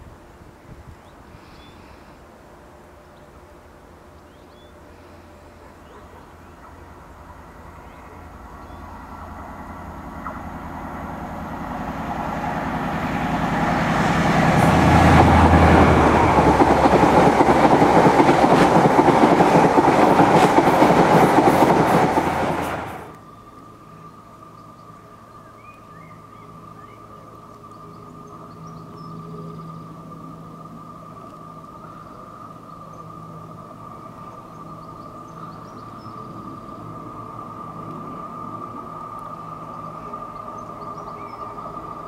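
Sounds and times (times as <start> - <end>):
diesel train passing: 2.1 - 42.0.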